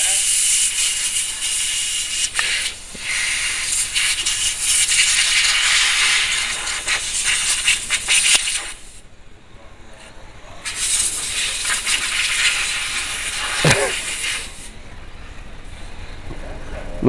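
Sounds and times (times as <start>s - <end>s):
loud steady hissing: 0.0s - 15.7s.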